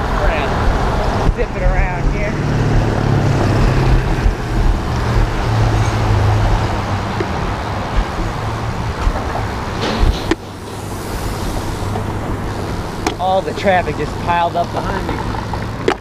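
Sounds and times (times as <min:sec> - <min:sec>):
low engine hum of traffic: 0:00.0 - 0:16.0
wind and road noise: 0:00.0 - 0:16.0.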